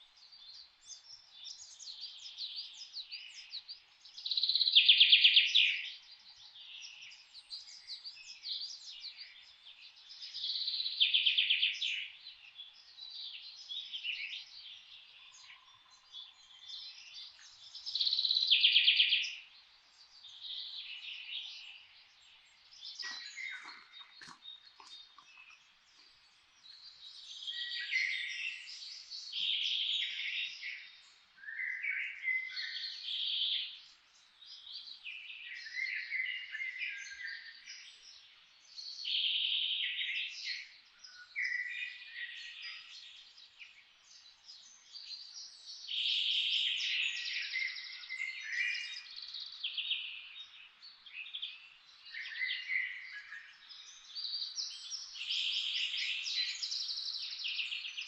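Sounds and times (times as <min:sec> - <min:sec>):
rapid trilled birdsong: 0:00.0 - 0:58.0
songbirds chirping: 0:00.0 - 0:58.0.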